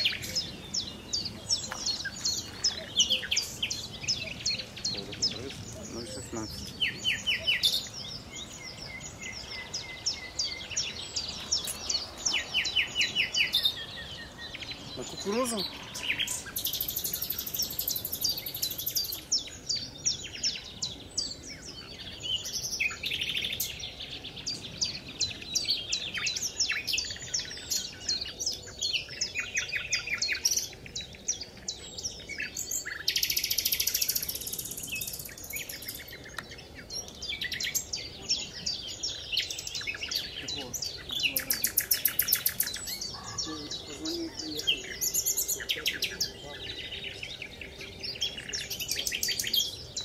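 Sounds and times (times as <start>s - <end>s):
songbirds singing and chirping: 0.0s - 50.0s.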